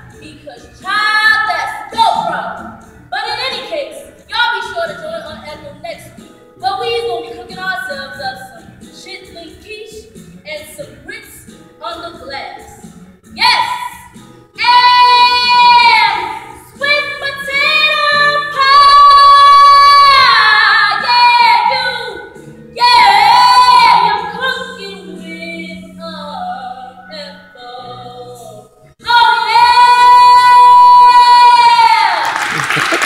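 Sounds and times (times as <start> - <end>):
woman singing: 0.0 - 12.7, 13.4 - 14.0, 14.6 - 32.2.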